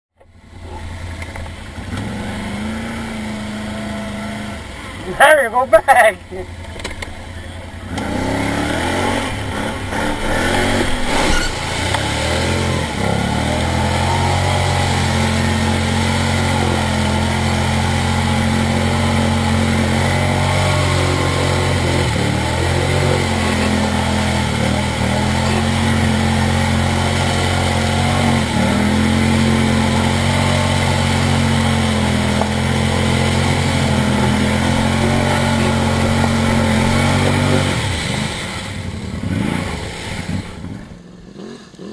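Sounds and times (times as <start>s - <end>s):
atv engine revving high: 0.3s - 41.9s.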